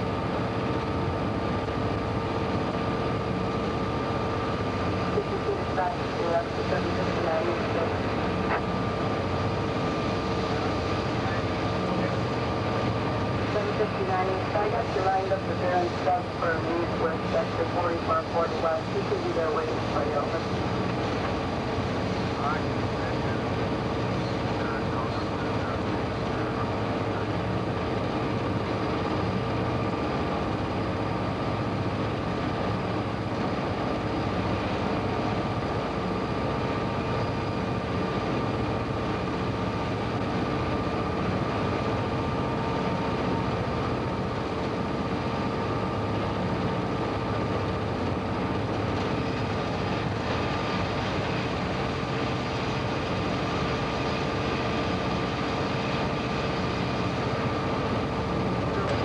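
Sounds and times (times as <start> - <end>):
faint constant whine: 0.0 - 59.0
locomotive engine and rolling drone: 0.0 - 59.0.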